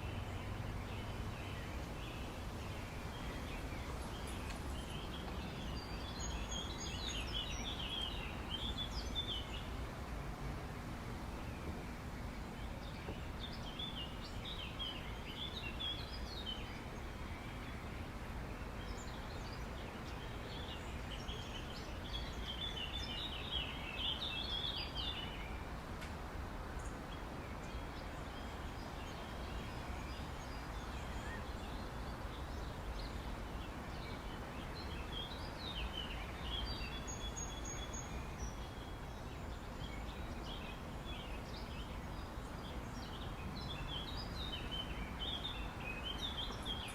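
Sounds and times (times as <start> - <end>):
small birds chirping: 0.0 - 26.1, 26.7 - 46.9
steady background noise: 0.0 - 46.9.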